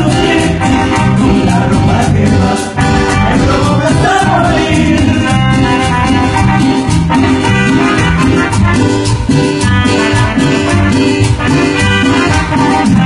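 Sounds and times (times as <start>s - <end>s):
cumbia band playing: 0.0s - 13.0s.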